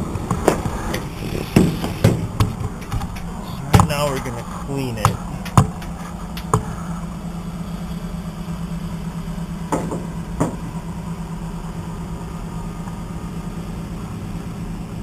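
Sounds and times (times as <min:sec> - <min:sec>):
tractor engine running: 0:00.0 - 0:13.2.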